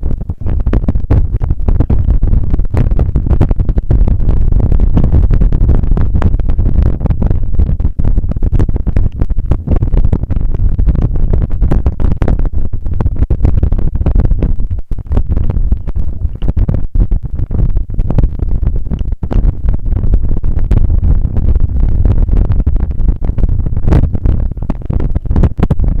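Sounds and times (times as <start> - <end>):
low rumble with rattling knocks: 0.0 - 26.0
wind buffeting microphone: 0.0 - 26.0.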